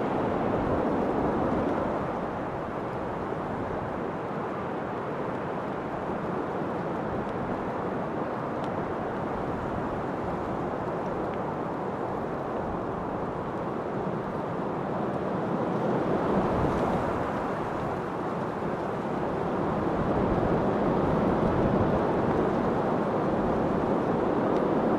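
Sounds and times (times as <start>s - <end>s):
steady wind: 0.0s - 24.9s.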